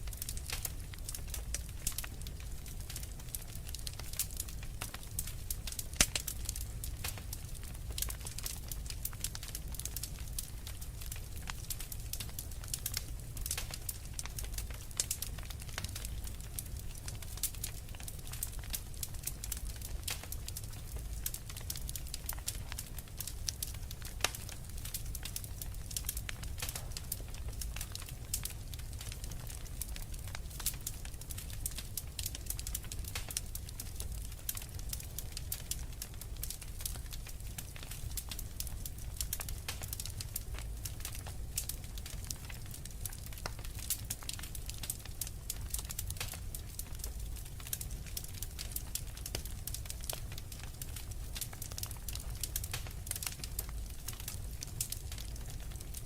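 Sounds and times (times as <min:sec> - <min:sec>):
low fire rumble: 0:00.0 - 0:56.0
wood fire popping and snapping: 0:00.0 - 0:56.0.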